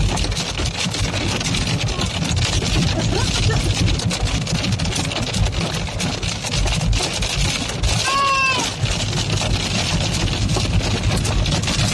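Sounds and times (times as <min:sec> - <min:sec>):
car engine rumble: 0:00.0 - 0:11.9
heavy rain on a car: 0:00.0 - 0:11.9.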